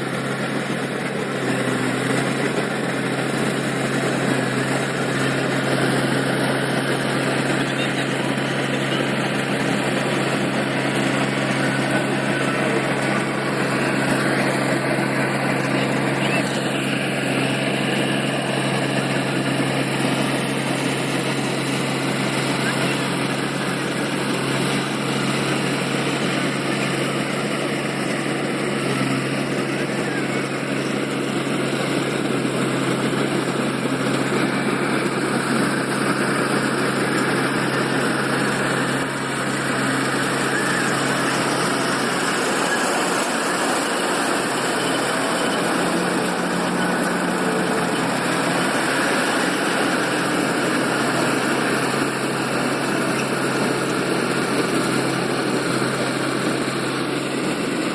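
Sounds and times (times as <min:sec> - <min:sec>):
engine hum: 0:00.0 - 0:57.9
machinery whirring: 0:00.1 - 0:57.9.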